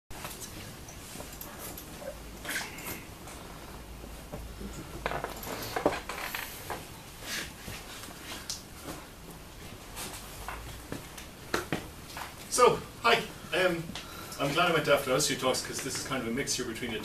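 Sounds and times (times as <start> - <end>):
faint room noise: 0.1 - 17.0.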